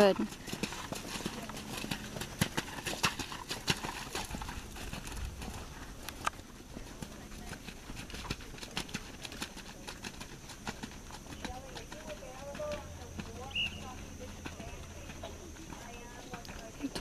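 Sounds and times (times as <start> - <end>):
horse hooves trotting on sand: 0.0 - 17.0.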